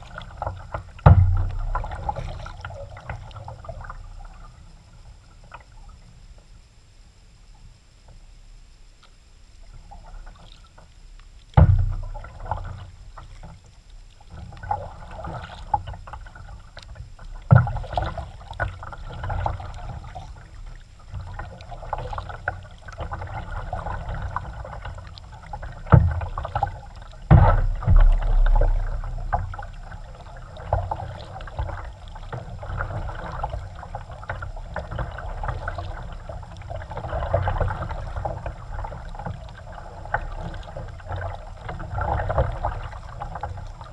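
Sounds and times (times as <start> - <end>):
paddle strokes splashing water: 0.0 - 6.0, 9.6 - 43.9.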